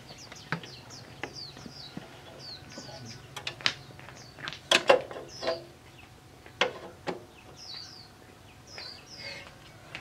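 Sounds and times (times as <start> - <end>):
small bird chirping: 0.0 - 4.5, 5.2 - 6.2, 7.2 - 9.8.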